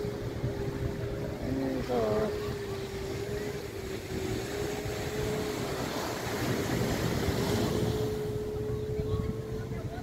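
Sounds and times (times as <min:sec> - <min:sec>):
speedboat engine running: 0:00.0 - 0:10.0
surf and wind rushing: 0:00.0 - 0:10.0.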